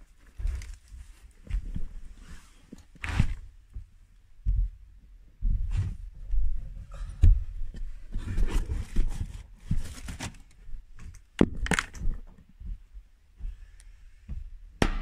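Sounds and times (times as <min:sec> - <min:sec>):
footsteps: 0:00.0 - 0:04.8, 0:05.4 - 0:14.6.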